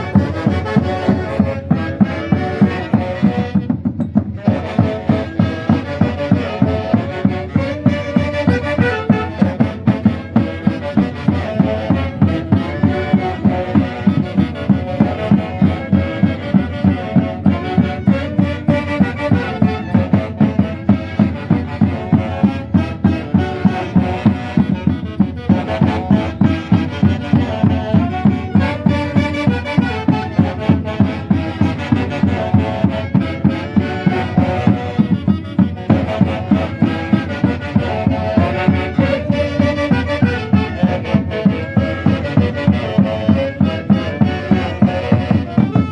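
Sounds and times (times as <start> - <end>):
steady drum beat: 0.0 - 45.9
wind instruments melody: 0.0 - 45.9.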